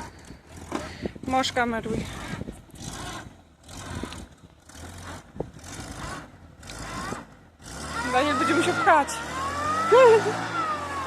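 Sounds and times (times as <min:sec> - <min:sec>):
car engine humming: 0:00.0 - 0:11.0
rushing noise of car stuck in mud: 0:00.0 - 0:11.0.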